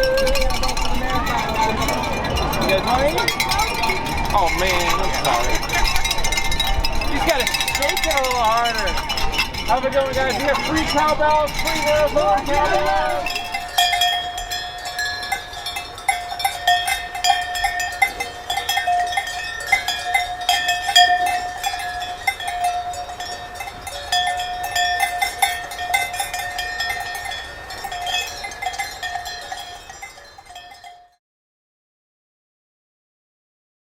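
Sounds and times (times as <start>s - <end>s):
cowbells clanging: 0.0s - 31.2s.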